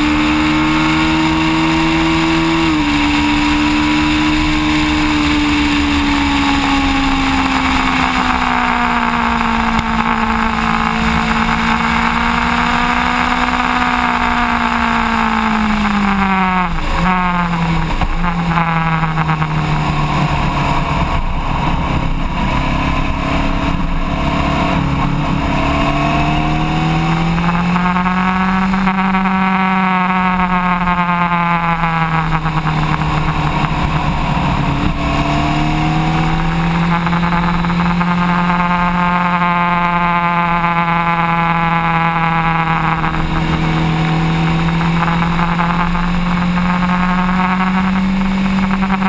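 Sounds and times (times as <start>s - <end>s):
motorcycle engine running hard: 0.0s - 49.0s.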